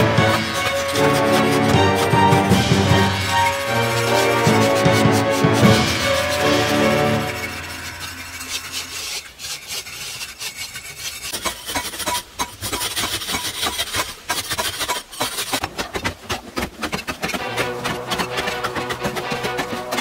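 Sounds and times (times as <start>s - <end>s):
hand tools scraping earth: 0.0s - 20.0s.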